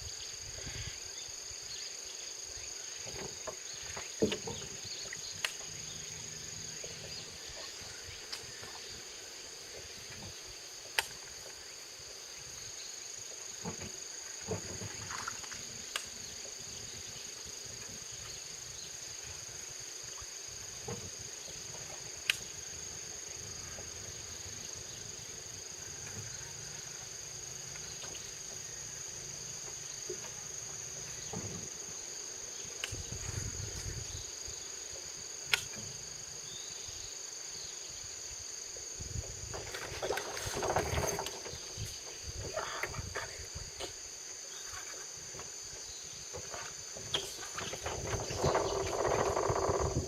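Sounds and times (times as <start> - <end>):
insects chirring: 0.0 - 50.0.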